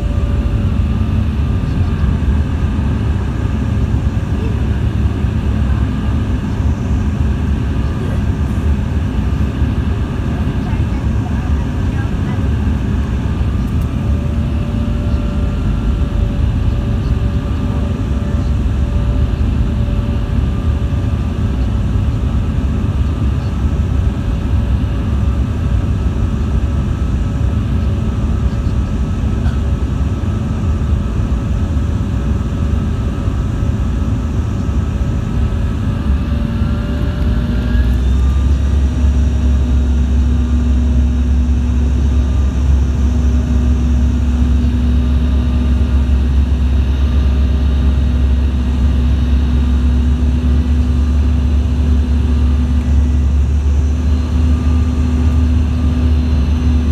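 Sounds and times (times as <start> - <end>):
aircraft engines rumbling: 0.0 - 56.9.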